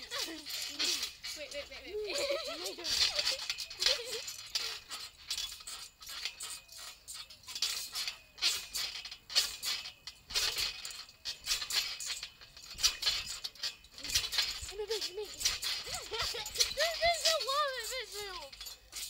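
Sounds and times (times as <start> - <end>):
trampoline springs creaking and jingling: 0.0 - 19.0.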